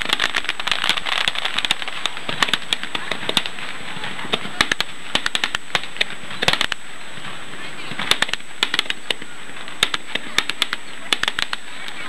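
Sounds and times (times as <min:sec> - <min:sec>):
firework cracks and pops: 0:00.0 - 0:12.0
fireworks crackling: 0:00.0 - 0:12.0.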